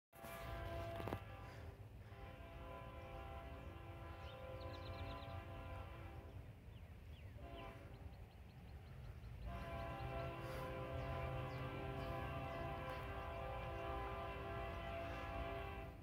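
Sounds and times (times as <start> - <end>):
train horn blasts: 0.1 - 16.0.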